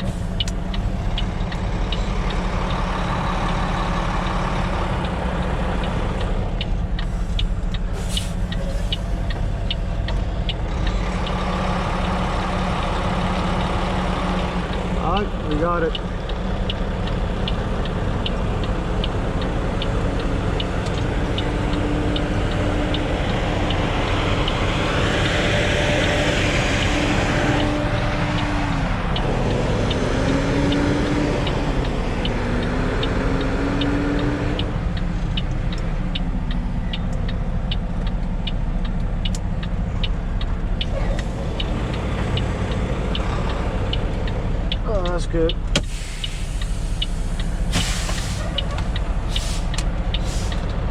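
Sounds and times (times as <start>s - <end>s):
truck diesel engine running: 0.0s - 50.9s
regular clicks: 0.1s - 50.9s.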